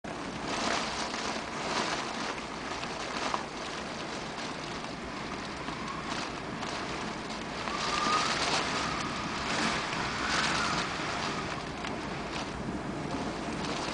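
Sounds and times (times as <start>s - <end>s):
strong wind gusting: 0.1s - 13.9s.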